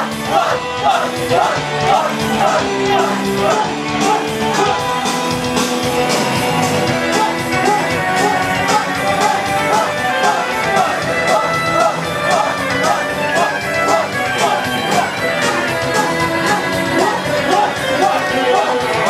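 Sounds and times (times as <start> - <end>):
live pop-rock music with singing: 0.0 - 19.0.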